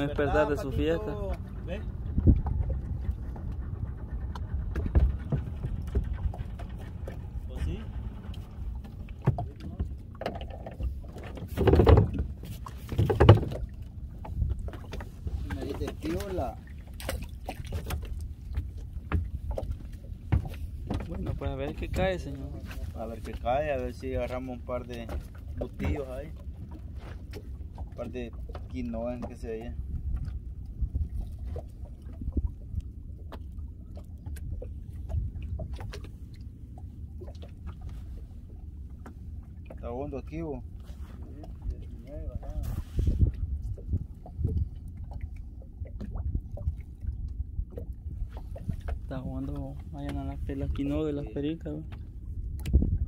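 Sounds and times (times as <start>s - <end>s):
water rumbling around boat hull: 0.0s - 53.0s.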